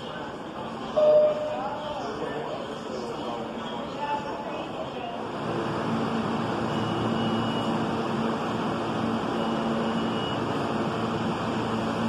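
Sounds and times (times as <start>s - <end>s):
subway train rumbling in tunnel: 0.0s - 12.0s.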